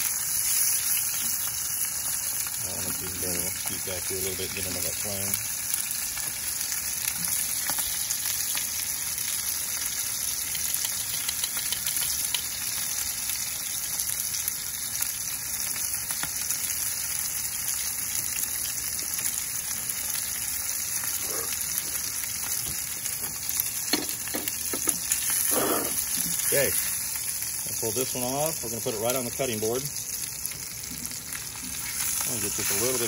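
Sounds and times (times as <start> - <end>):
fish searing in hot oil: 0.0 - 33.0.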